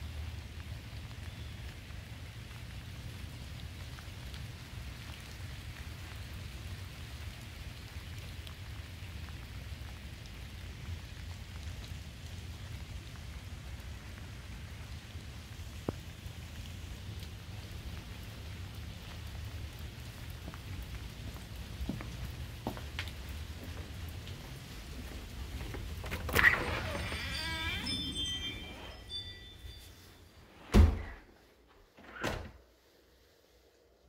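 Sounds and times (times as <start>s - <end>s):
steady rain: 0.0s - 30.5s, 32.6s - 34.0s.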